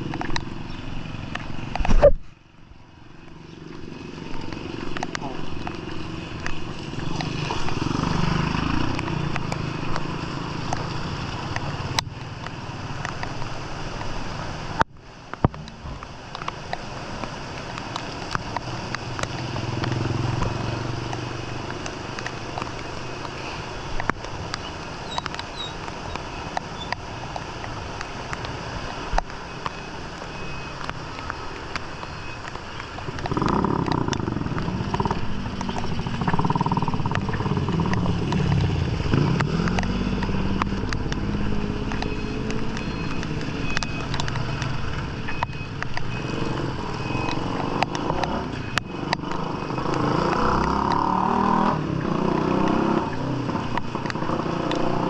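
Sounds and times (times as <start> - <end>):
scattered clicks: 0.0 - 0.5, 3.2 - 7.9, 14.8 - 55.0
motorcycle engines revving: 3.0 - 14.9, 15.6 - 55.0.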